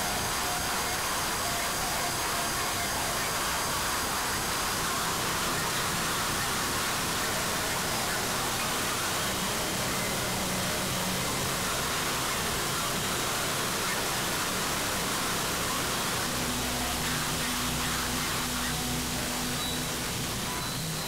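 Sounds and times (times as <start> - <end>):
static hiss noise music: 0.0 - 21.0.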